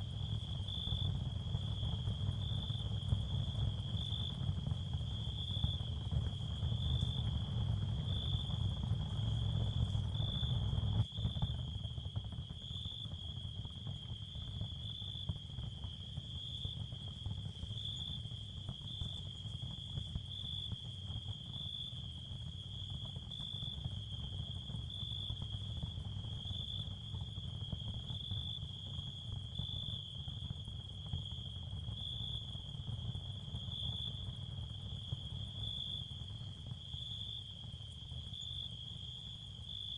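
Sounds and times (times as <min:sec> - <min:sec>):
crickets chirping: 0:00.2 - 0:04.4, 0:08.1 - 0:39.9.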